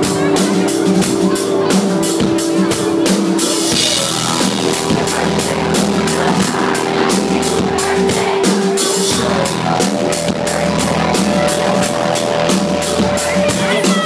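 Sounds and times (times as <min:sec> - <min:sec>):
drum kit steady beat: 0:00.0 - 0:14.0
live country band playing: 0:00.0 - 0:14.0.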